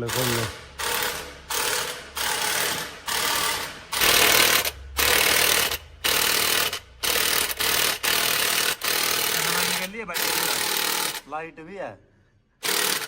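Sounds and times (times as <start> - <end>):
impact wrench hammering: 0.0 - 11.2, 12.6 - 13.0.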